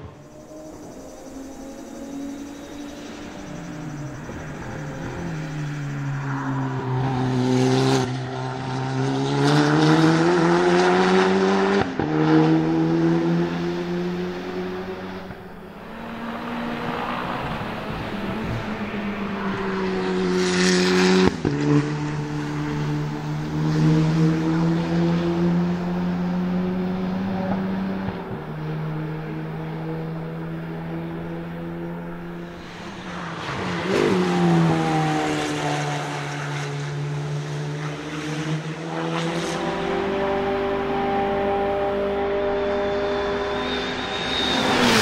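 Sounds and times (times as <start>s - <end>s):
race car engine passing by: 0.0s - 45.0s.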